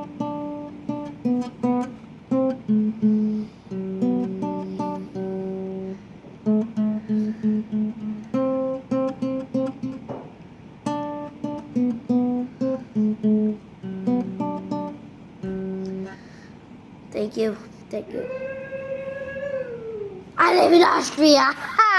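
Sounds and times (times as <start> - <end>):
acoustic guitar riff: 0.0 - 18.2.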